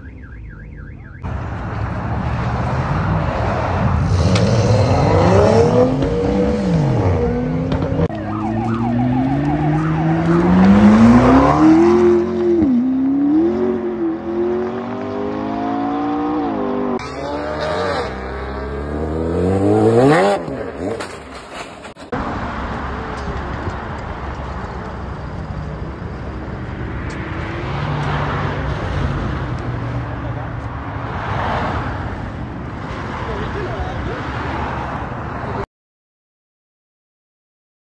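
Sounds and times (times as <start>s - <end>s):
car engines revving: 0.0s - 35.6s.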